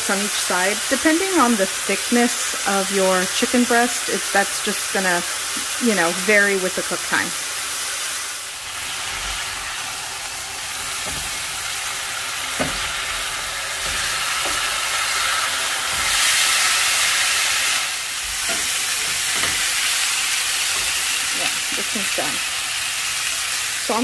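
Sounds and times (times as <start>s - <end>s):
chicken sizzling in grill pan: 0.0s - 24.0s.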